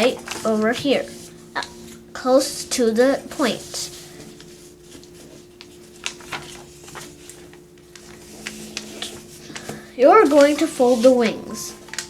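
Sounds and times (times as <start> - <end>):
paper rustling and crinkling: 0.0 - 2.1, 2.8 - 12.0
faint steady hum: 0.0 - 12.0.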